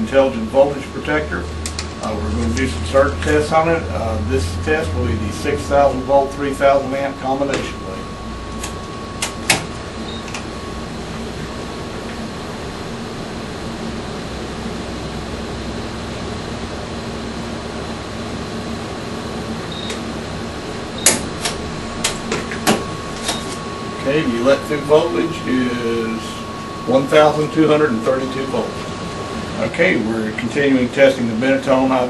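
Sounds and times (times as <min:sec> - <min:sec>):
equipment humming: 0:00.0 - 0:32.0.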